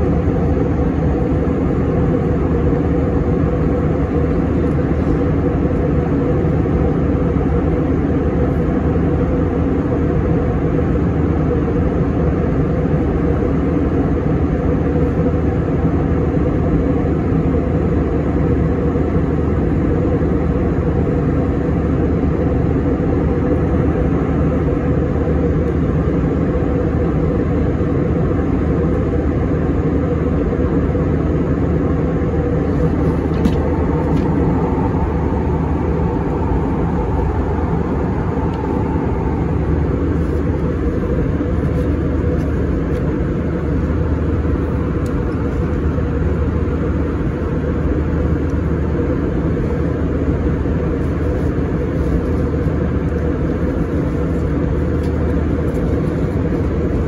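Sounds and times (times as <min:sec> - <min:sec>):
airliner cabin drone: 0:00.0 - 0:57.0.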